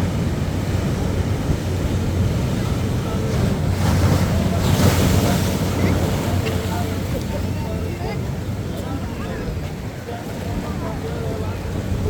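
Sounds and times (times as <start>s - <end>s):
ocean waves on a beach: 0.0s - 12.0s.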